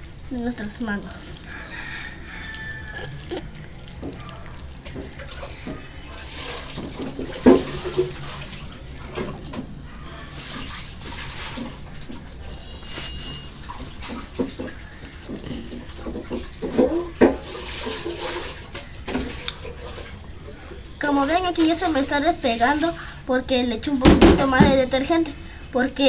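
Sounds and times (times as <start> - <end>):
slime squelching by hand: 0.0 - 25.2.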